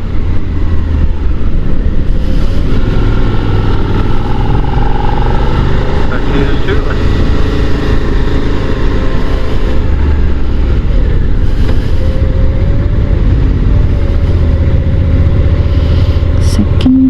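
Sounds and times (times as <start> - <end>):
motorcycle engine climbing: 0.0 - 16.8
wind rush on microphone: 0.0 - 16.9.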